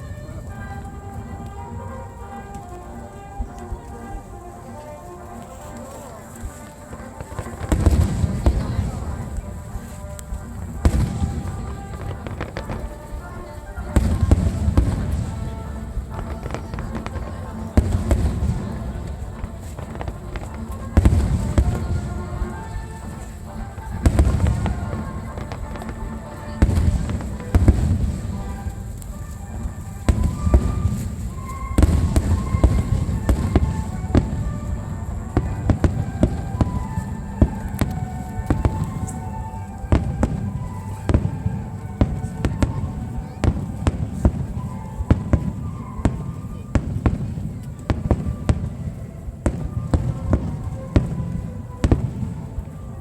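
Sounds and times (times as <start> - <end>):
low rumble of distant explosions: 0.0 - 53.0
firework bangs: 6.3 - 53.0.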